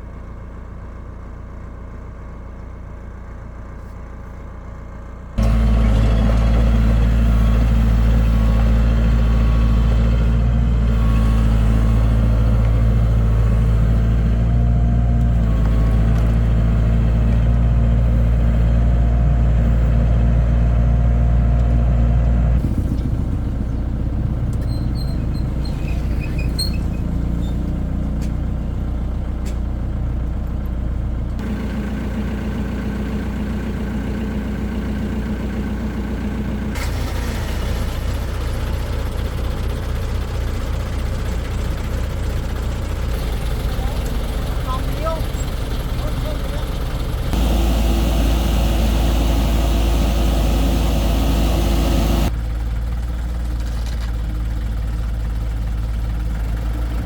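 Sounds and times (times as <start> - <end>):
heavy diesel engine running: 0.0 - 26.7, 27.4 - 57.0.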